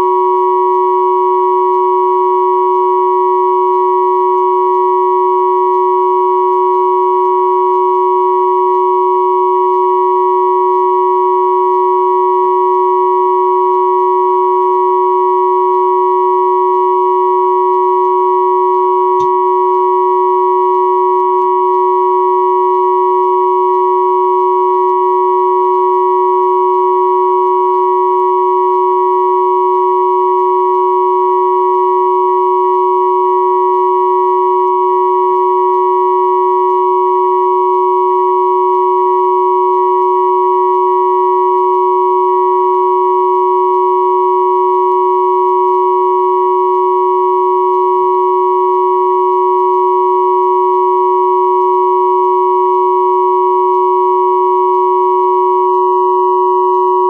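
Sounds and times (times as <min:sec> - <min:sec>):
steady sine tone chord: 0:00.0 - 0:57.0.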